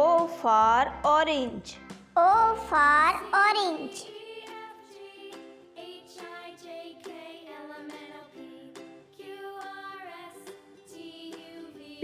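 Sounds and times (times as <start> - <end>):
soft children's background music: 0.0 - 12.0.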